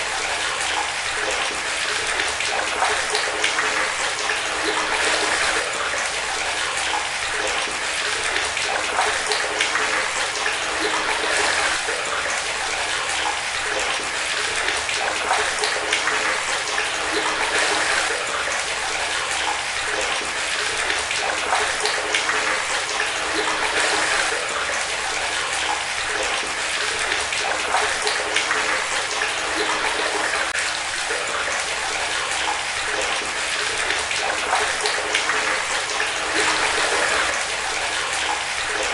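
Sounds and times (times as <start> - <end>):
running water pouring and splashing: 0.0 - 38.9.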